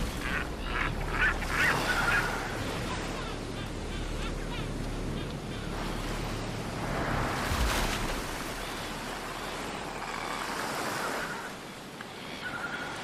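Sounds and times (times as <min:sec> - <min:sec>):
ocean surf breaking: 0:00.0 - 0:11.6.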